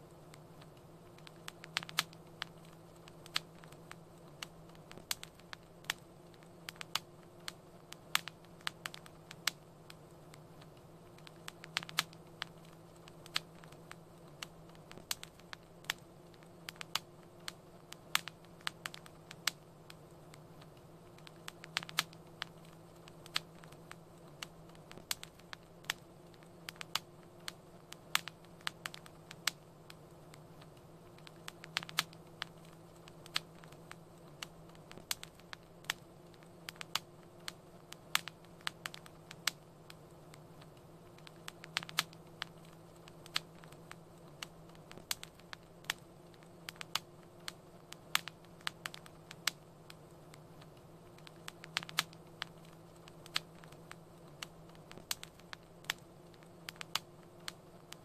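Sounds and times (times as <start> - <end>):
faint low hum: 0.0 - 58.0
wood fire crackling and popping: 0.0 - 58.0.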